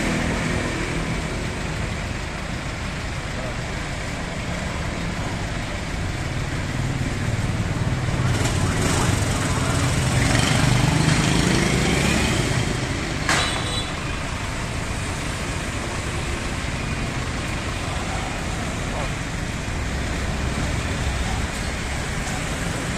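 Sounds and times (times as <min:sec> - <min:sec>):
road traffic noise: 0:00.0 - 0:22.9.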